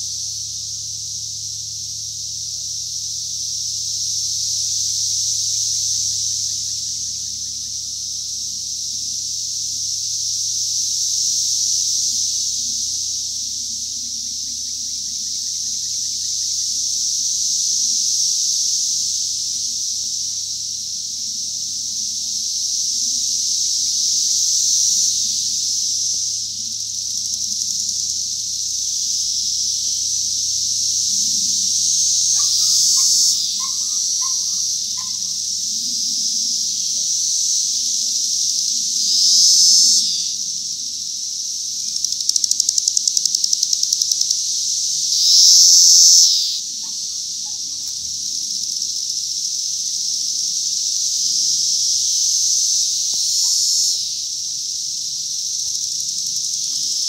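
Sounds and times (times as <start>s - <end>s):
cicadas droning: 0.0s - 57.0s.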